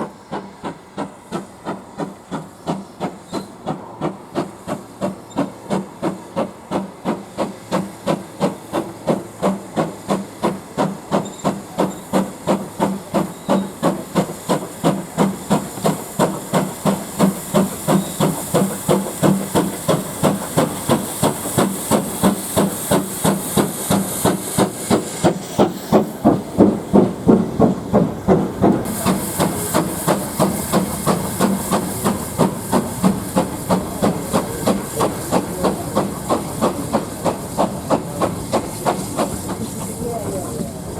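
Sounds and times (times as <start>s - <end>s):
high steam hiss: 0.0s - 40.9s
steam locomotive chuffing: 0.0s - 40.9s.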